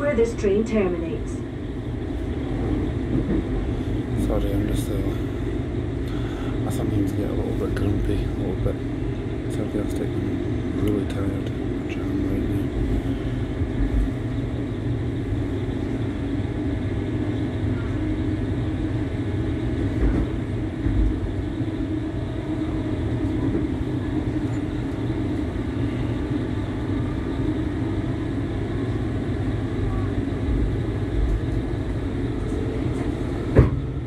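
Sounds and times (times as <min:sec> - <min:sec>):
train rumble and hum: 0:00.0 - 0:34.0.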